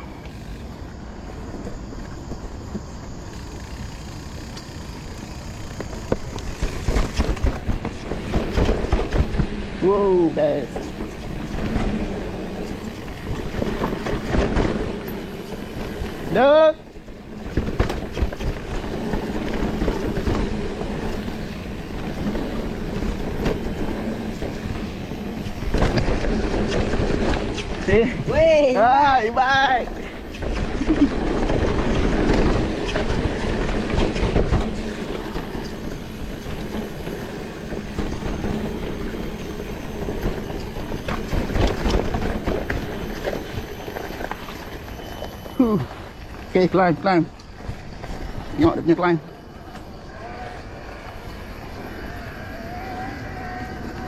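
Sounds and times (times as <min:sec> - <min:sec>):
bike clattering and rattling: 0:00.0 - 0:54.0
bike tyres rolling: 0:00.0 - 0:54.0
wind noise: 0:00.0 - 0:54.0.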